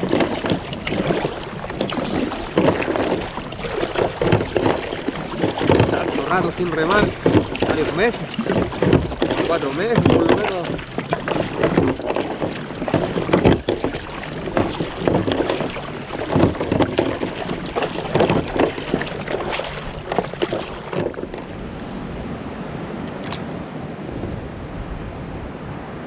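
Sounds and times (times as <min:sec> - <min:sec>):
paddle strokes splashing: 0:00.0 - 0:22.0
wind and water hiss: 0:00.0 - 0:26.0.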